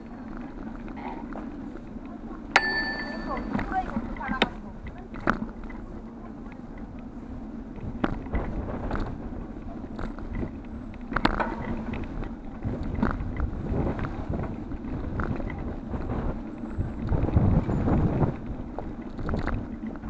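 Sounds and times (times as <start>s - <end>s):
bike rattling over bumps: 0.0s - 20.0s
wind rumble on microphone: 0.0s - 20.0s.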